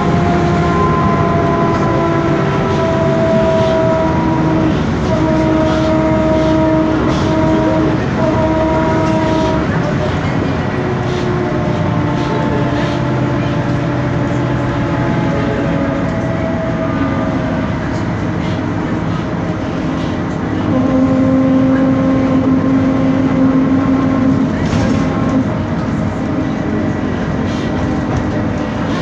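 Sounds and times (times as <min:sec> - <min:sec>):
bus differential whining: 0:00.0 - 0:29.0
diesel engine running: 0:00.0 - 0:29.0
road noise: 0:00.0 - 0:29.0.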